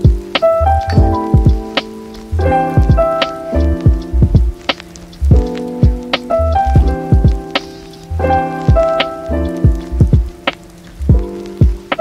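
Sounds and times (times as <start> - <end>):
deep kick drums: 0.0 - 0.4, 1.0 - 1.8, 2.4 - 7.6, 8.2 - 11.8
synth chords: 0.0 - 12.0.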